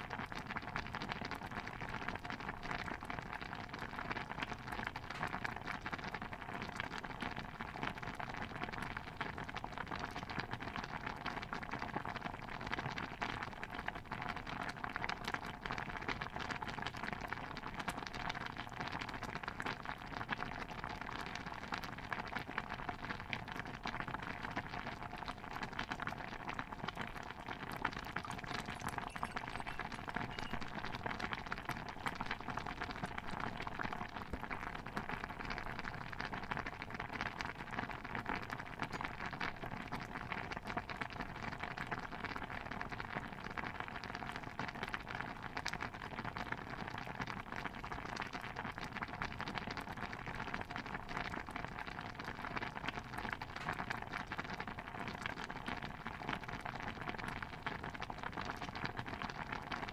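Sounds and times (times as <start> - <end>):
stew bubbling in a pot: 0.0 - 59.9.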